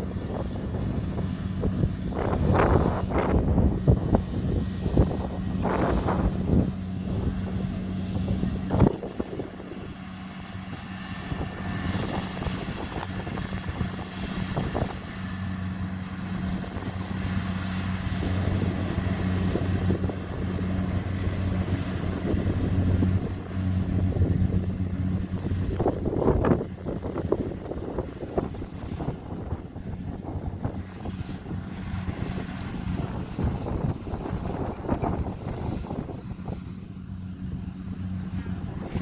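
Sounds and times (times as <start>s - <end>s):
combine harvester engine running: 0.0s - 39.0s
wind buffeting microphone: 0.0s - 39.0s.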